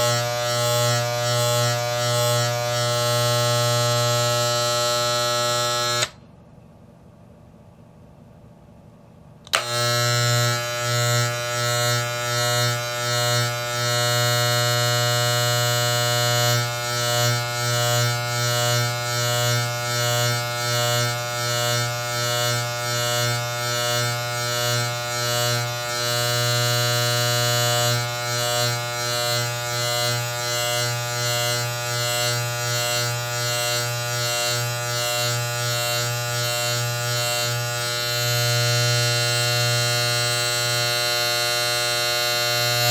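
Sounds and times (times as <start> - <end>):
electric hair clippers buzzing: 0.0 - 6.2, 9.5 - 42.9.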